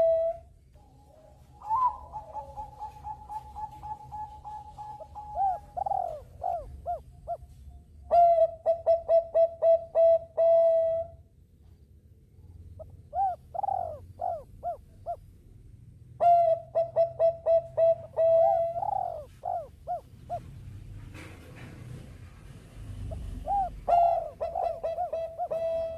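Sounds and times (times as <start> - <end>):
dove cooing: 0.0 - 11.2, 12.8 - 15.3, 16.2 - 20.7, 23.0 - 25.9.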